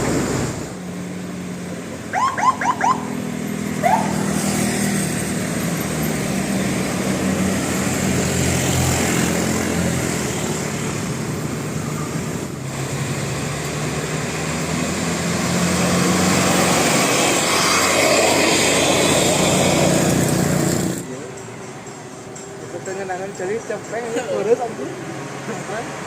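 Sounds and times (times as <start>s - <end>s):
bus engines droning: 0.0s - 26.0s
traffic noise: 0.0s - 26.0s.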